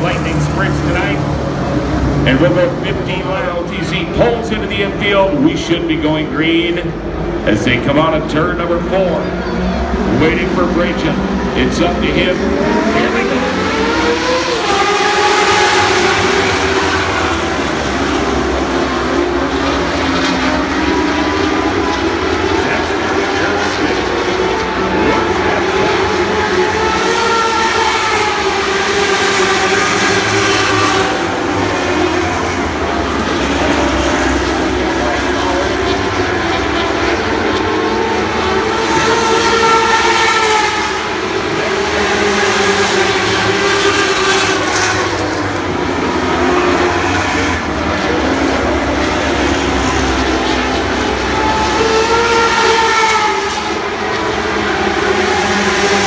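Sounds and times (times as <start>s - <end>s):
racing car engines at high revs: 0.0s - 56.0s.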